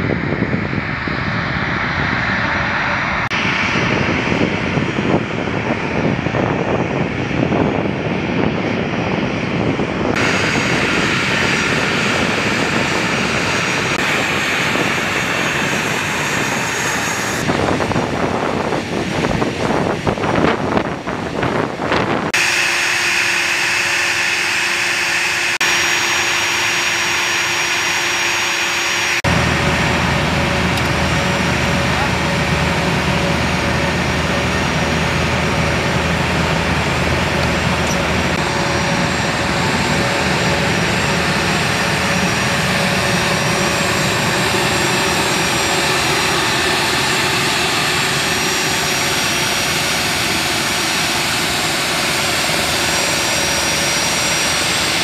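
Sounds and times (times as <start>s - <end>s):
jet engine drone and whine: 0.0s - 55.0s.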